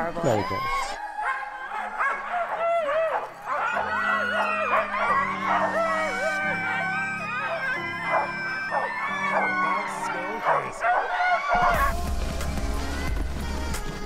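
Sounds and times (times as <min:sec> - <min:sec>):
huskies howling yipping and barking: 0:00.0 - 0:13.4.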